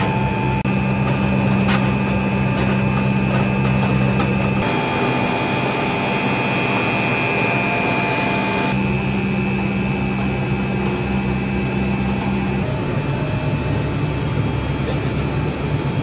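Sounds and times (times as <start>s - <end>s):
high steady machine whines: 0.0s - 16.0s
machine hum: 0.0s - 16.0s.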